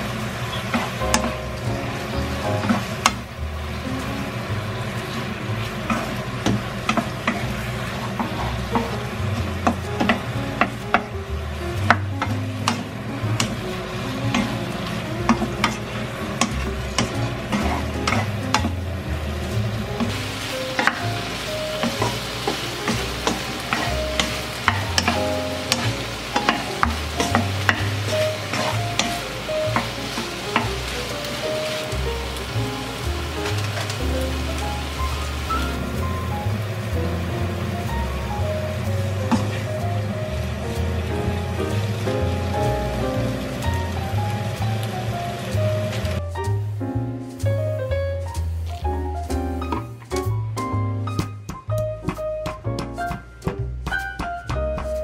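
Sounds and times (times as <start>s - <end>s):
sauce sizzling: 0.0s - 54.0s
utensil scraping frying pan: 0.4s - 46.3s.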